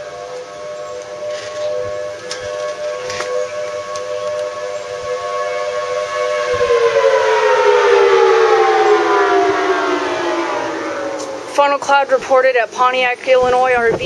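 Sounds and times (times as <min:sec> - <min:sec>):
warning sirens wailing: 0:00.0 - 0:14.0.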